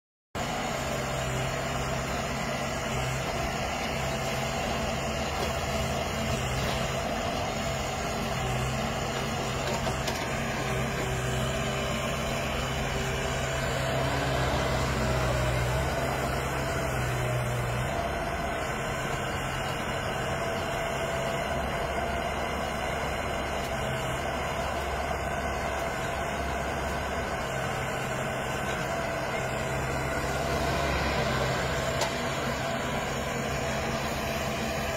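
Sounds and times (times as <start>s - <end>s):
diesel engine running: 0.4s - 34.9s.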